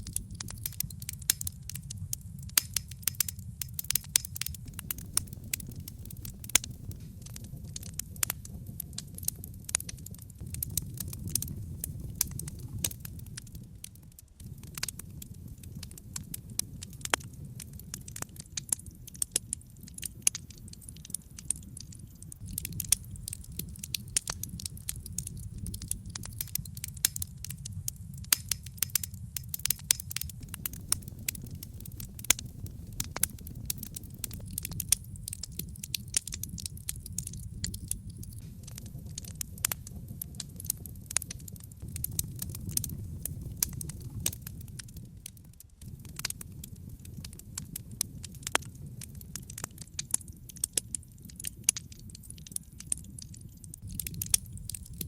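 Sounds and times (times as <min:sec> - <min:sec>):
low rumble of flames: 0:00.0 - 0:55.0
wood logs crackling and popping: 0:00.0 - 0:55.0.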